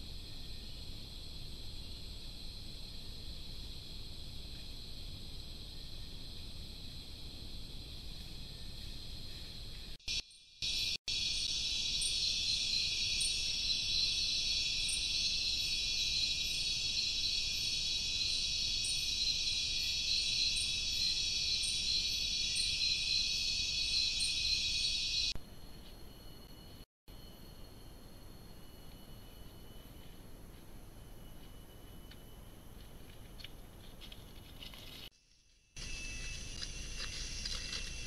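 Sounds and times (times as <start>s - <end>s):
high-pitched insect chorus: 0.1s - 32.6s, 34.1s - 38.0s.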